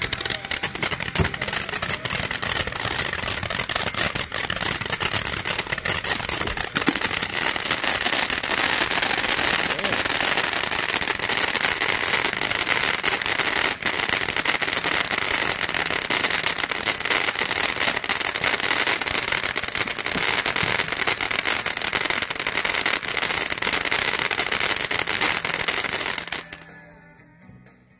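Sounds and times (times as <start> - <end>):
firework fountain hissing and crackling: 0.0 - 26.7.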